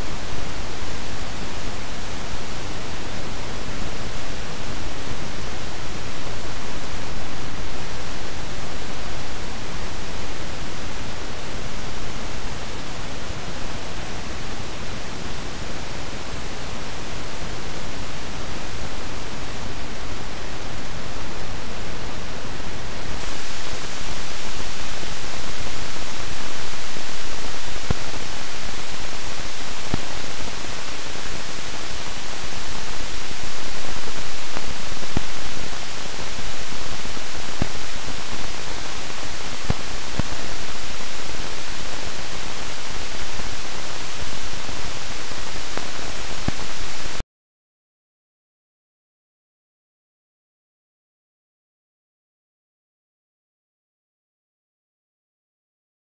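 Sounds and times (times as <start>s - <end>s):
electronic hiss: 0.0s - 47.2s.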